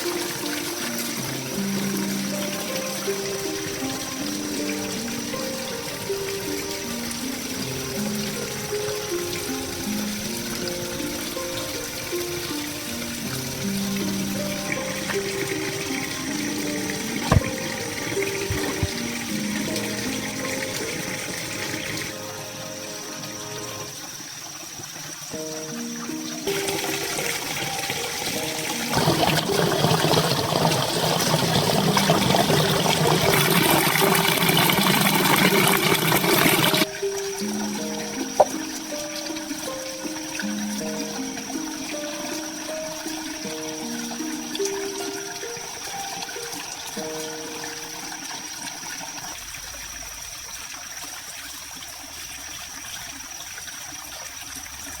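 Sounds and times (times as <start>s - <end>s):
soft background music: 0.0s - 49.6s
running water splashing: 0.0s - 55.0s.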